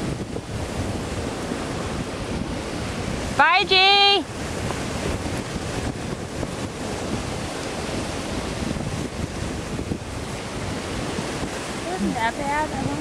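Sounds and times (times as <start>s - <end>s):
waves breaking on beach: 0.0s - 13.0s
wind buffeting microphone: 0.0s - 13.0s.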